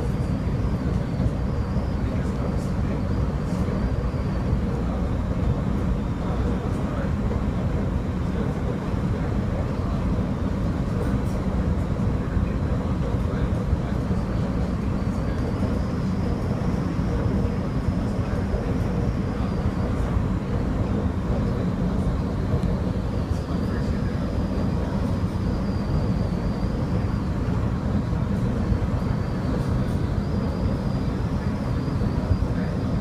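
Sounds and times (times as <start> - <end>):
faint high whine: 0.0 - 33.0
train wheels rumbling on rails: 0.0 - 33.0.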